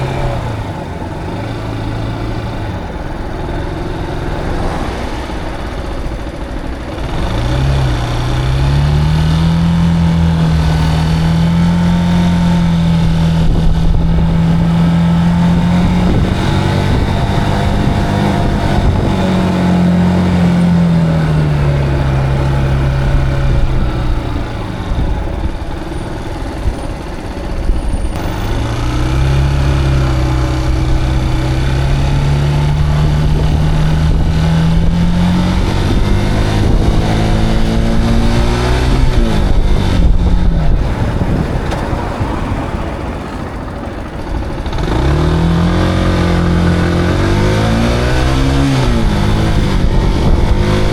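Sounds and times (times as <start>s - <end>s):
motorcycle engine: 0.0s - 50.9s.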